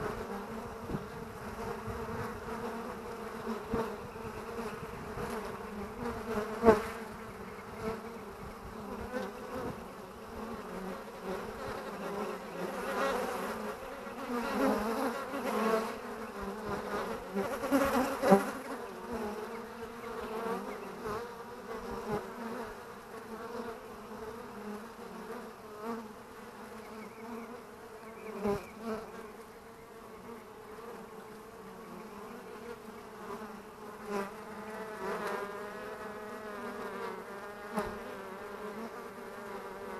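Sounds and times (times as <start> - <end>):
honeybees buzzing: 0.0 - 39.9.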